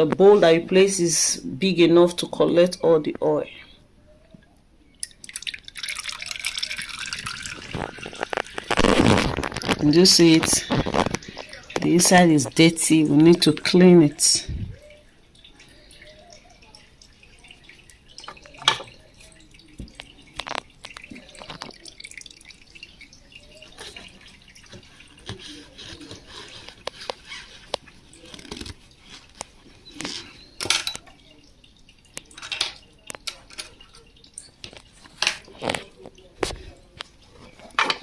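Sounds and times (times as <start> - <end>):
oil dripping into a bowl: 4.5 - 12.6, 14.8 - 37.7.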